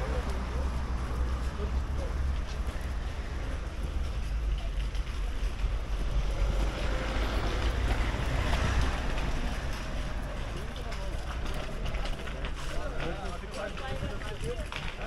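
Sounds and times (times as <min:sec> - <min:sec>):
outdoor noise rushing: 0:00.0 - 0:15.0.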